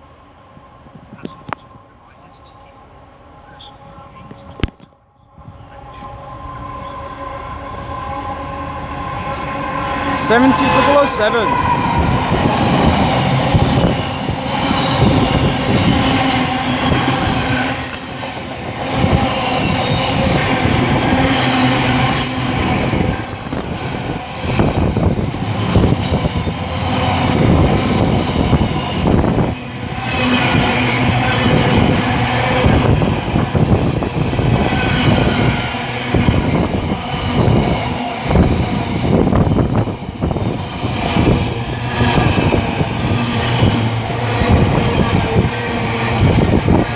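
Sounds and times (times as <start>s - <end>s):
diesel locomotive engine: 0.0s - 46.9s.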